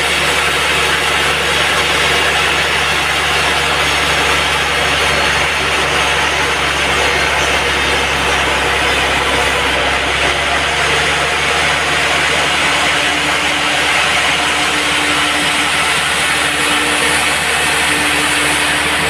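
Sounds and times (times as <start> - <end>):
band saw cutting a log: 0.0 - 19.0.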